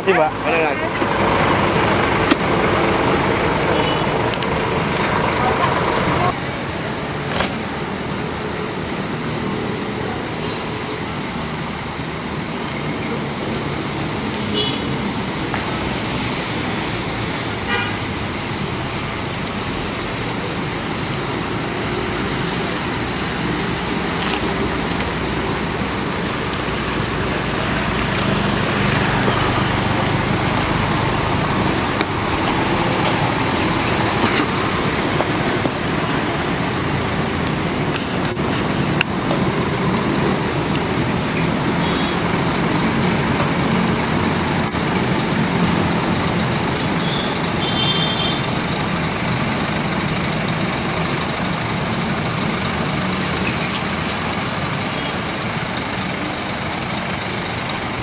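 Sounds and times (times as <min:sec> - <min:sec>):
vehicle engines and road noise: 0:00.0 - 0:58.0.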